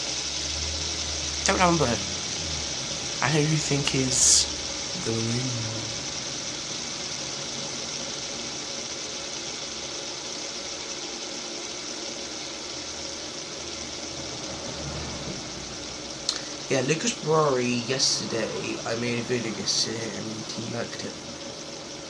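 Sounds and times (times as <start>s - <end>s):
fidget spinners whirring: 0.0s - 22.0s.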